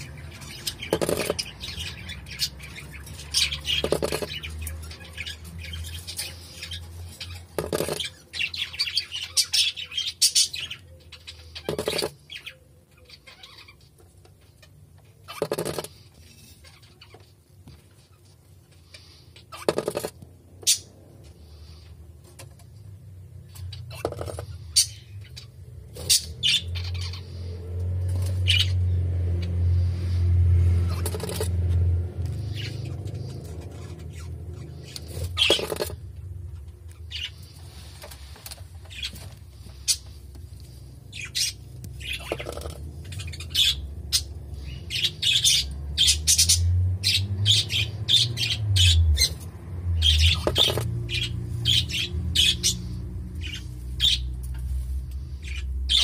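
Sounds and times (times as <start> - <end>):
bird chirps and squawks: 0.0 - 17.3, 18.0 - 21.9, 23.4 - 30.2, 32.3 - 36.0, 36.9 - 38.0, 41.1 - 49.4, 50.0 - 56.0.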